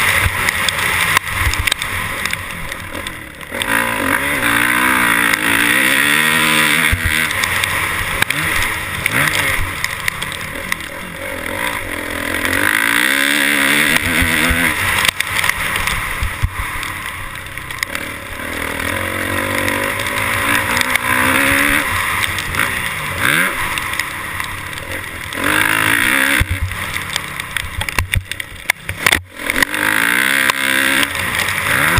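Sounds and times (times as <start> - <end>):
motorcycle engines revving: 0.0 - 31.9
steady rushing noise: 0.0 - 31.9.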